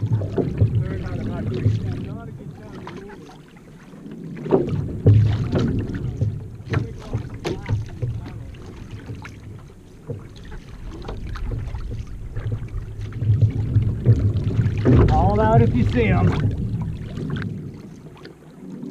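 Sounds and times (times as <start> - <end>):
paddle splashes: 0.0 - 18.9
water rushing along canoe hull: 0.0 - 18.9
wind on microphone: 0.0 - 18.9.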